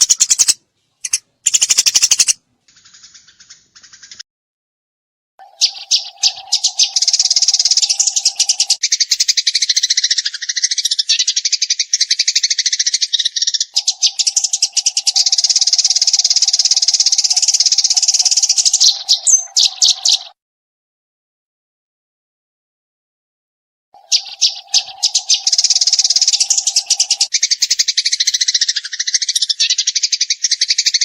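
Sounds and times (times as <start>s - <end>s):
sparrow chirping: 0.0s - 4.2s, 5.4s - 20.4s, 24.0s - 31.0s.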